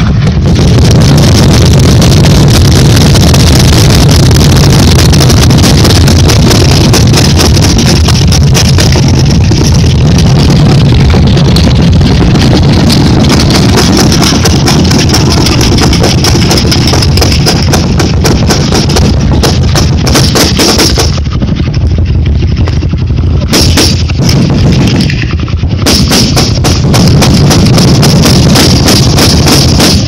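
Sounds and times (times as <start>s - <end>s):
machine guns firing: 0.0s - 21.4s, 22.8s - 30.0s.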